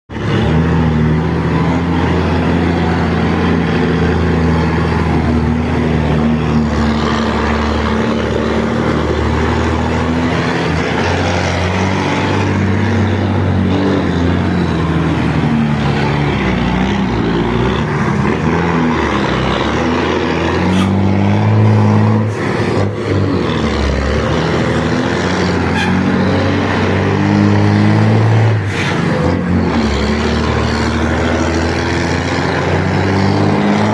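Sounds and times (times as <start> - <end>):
loud truck diesel engine revving: 0.1 - 33.9.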